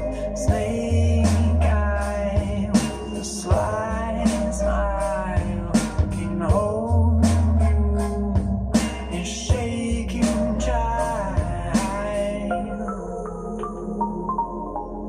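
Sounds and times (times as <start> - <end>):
song with singing drums and bass: 0.0 - 12.8.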